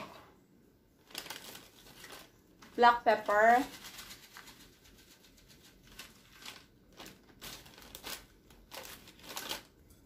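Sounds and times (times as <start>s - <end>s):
plastic sachet crinkling: 1.0s - 9.8s.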